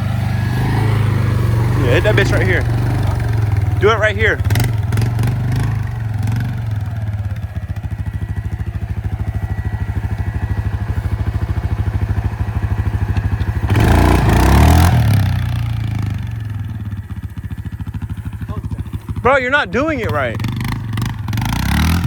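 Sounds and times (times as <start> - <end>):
small motorbike engine idling: 0.0 - 22.0.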